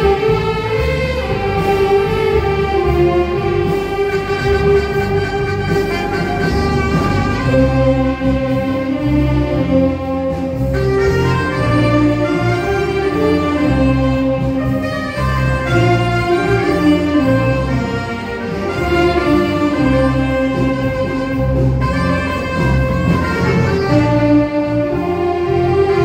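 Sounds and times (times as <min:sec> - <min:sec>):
band playing instrumental music: 0:00.0 - 0:26.0.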